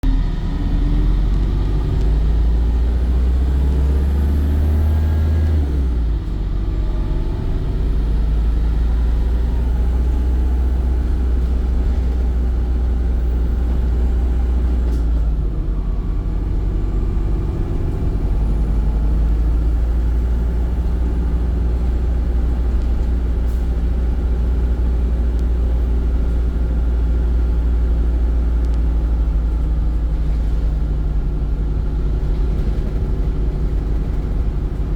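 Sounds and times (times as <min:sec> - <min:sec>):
bus engine rumbling: 0:00.0 - 0:34.9.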